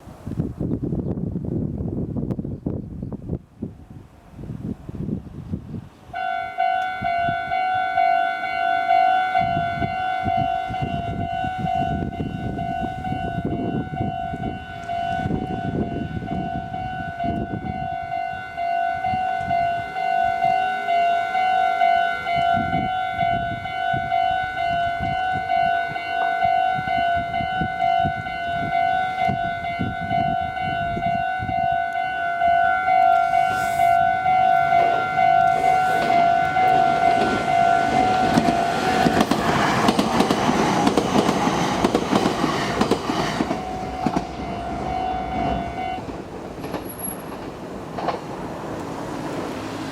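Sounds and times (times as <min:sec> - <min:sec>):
railroad crossing bell ringing: 0:06.1 - 0:47.6.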